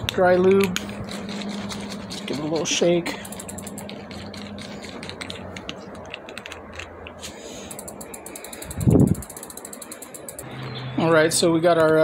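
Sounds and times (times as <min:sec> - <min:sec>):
bicycle freehub clicking: 0:00.0 - 0:10.5.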